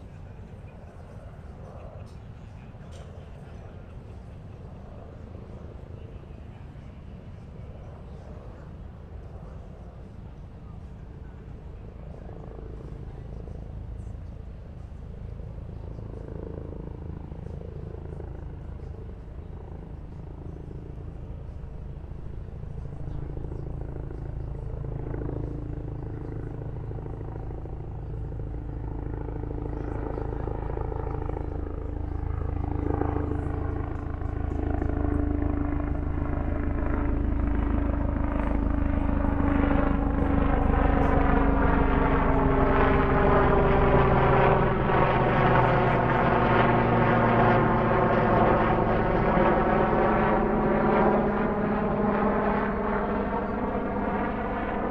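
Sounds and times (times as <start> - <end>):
helicopter flying by: 0.0 - 54.9.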